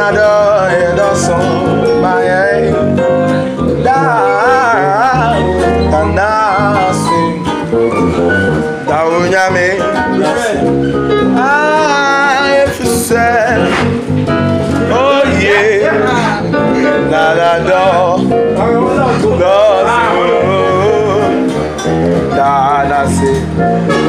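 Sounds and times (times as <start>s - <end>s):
electric bass guitar: 0.0s - 24.0s
electric keyboard playing: 0.0s - 24.0s.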